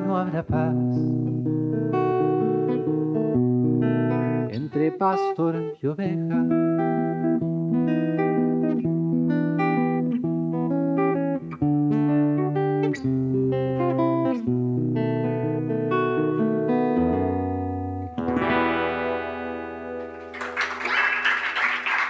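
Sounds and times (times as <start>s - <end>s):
fingerpicked acoustic guitar: 0.0s - 21.2s.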